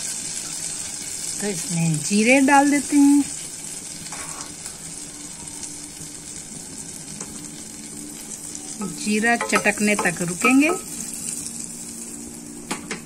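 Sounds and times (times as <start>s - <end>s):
butter sizzling in a pan: 0.0s - 13.0s.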